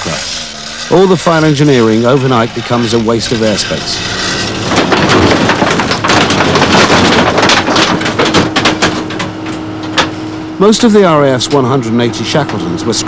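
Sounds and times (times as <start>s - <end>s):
metal crunching and tearing: 0.0s - 10.8s
steady hum: 0.0s - 13.0s.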